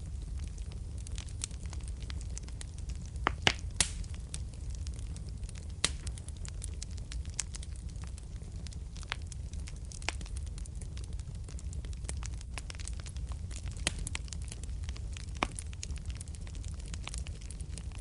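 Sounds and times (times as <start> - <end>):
fire popping and snapping: 0.0 - 18.0
fire rumbling: 0.0 - 18.0.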